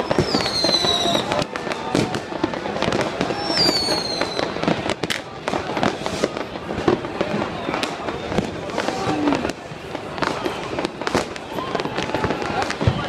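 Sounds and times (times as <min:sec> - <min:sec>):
fireworks bangs and crackles: 0:00.0 - 0:13.0
whistling firework: 0:00.0 - 0:13.0.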